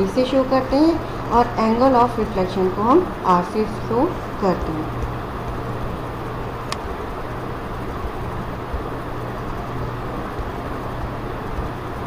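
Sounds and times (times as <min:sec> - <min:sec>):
low hum with hiss: 0:00.0 - 0:12.0.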